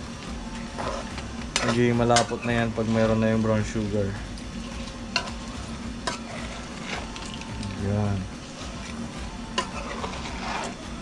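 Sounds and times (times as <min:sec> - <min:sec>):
shrimp sizzling in a frying pan: 0:00.0 - 0:11.0
ladle stirring in a pan: 0:00.1 - 0:11.0.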